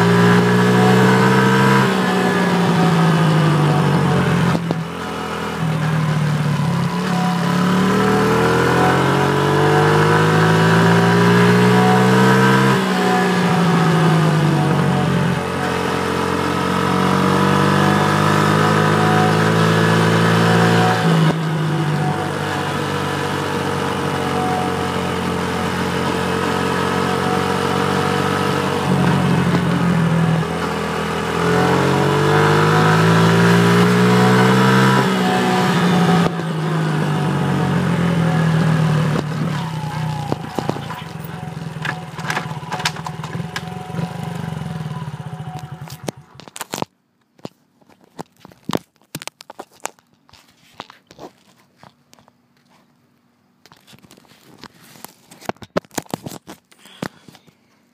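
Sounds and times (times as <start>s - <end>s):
small motorbike engine revving: 0.0s - 46.5s.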